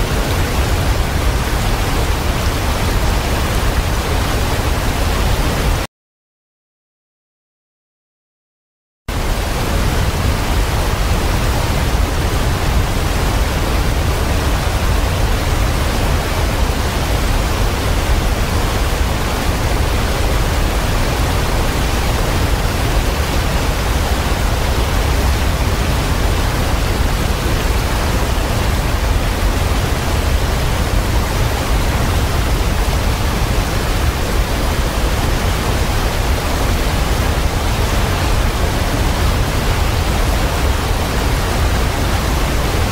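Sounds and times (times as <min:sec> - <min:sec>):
waterfall rushing: 0:00.0 - 0:05.8, 0:09.1 - 0:42.9.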